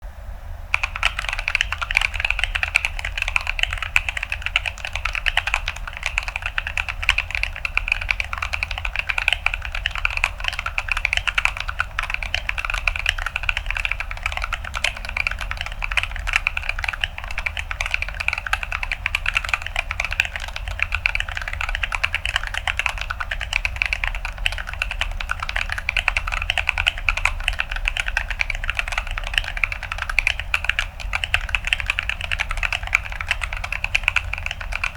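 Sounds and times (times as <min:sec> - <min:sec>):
fast typing on mechanical keyboard: 0:00.7 - 0:34.9.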